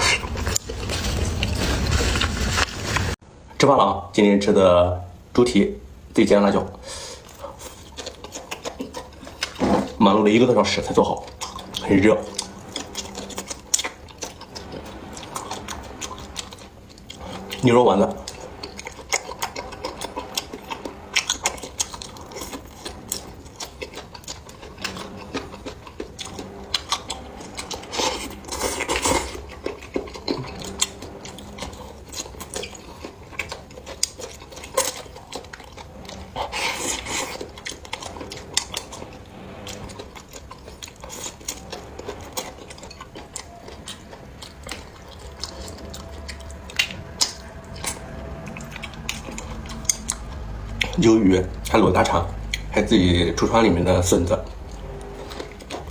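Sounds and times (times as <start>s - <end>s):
chewing: 0.0s - 3.2s, 6.7s - 55.9s.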